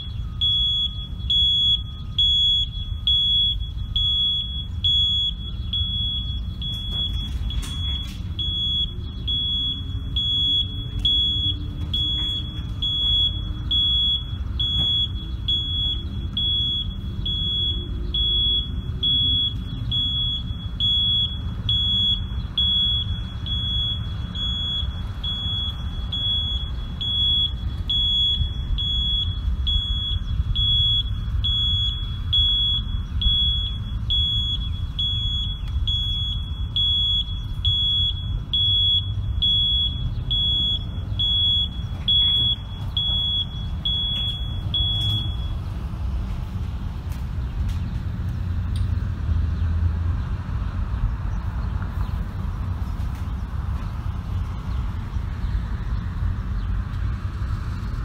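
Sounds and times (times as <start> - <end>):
backup alarm beeping: 0.0 - 46.6
engine and traffic rumble: 0.0 - 58.0.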